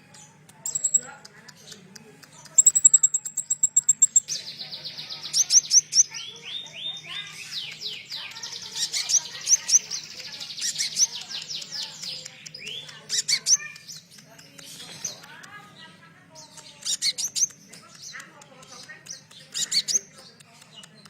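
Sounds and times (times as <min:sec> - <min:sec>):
songbird singing trills and chatter: 0:00.0 - 0:21.0.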